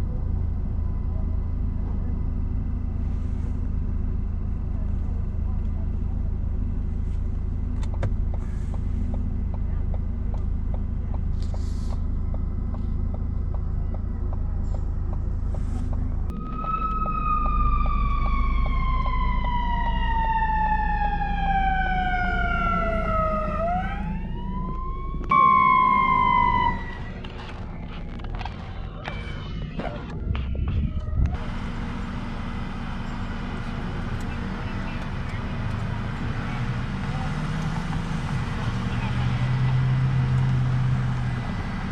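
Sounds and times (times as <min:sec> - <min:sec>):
low engine rumble: 0:00.0 - 0:41.9.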